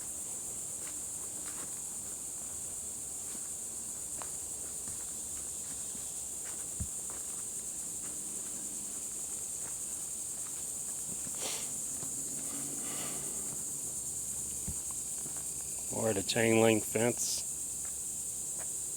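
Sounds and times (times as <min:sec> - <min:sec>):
insect chorus: 0:00.0 - 0:18.9
footsteps on trail: 0:00.4 - 0:15.9.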